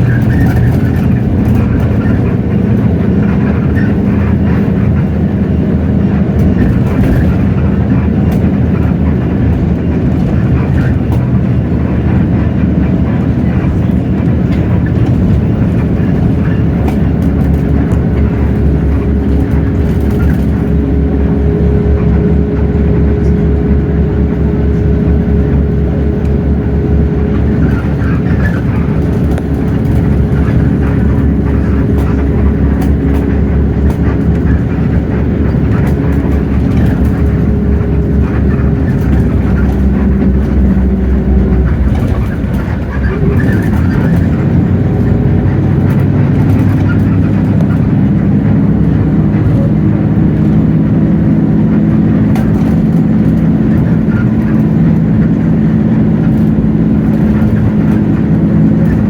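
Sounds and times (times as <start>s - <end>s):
bus diesel engine drone: 0.0s - 59.0s
steady whine: 0.0s - 59.0s.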